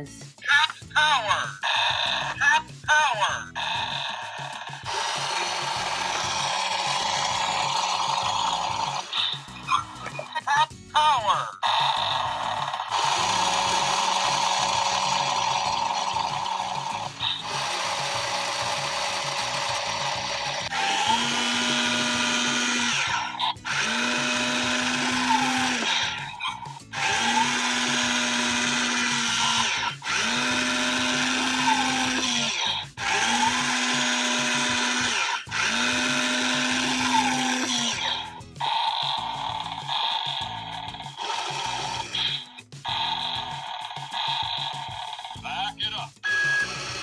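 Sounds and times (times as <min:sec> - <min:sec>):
toy motor whirring: 0:00.0 - 0:47.0.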